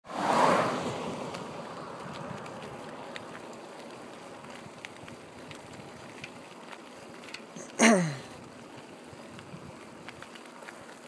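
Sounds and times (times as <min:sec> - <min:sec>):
bicycle tyres on pavement: 0:00.0 - 0:11.0
small clicks and rattles: 0:01.3 - 0:11.0.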